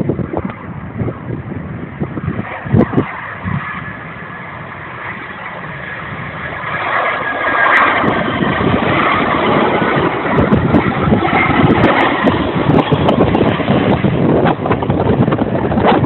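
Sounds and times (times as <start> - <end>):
jet engines rushing with high whine: 0.0 - 16.0
wind buffeting microphone: 0.0 - 16.0.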